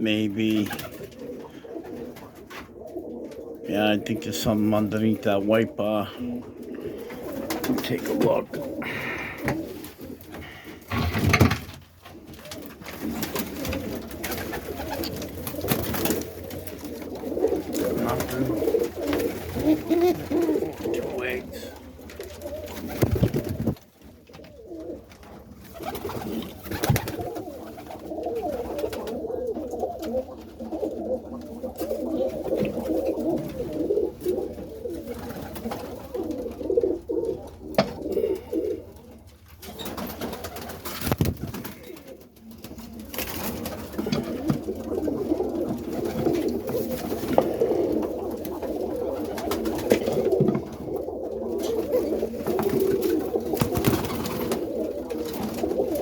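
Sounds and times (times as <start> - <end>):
pigeons cooing: 0.0 - 56.0.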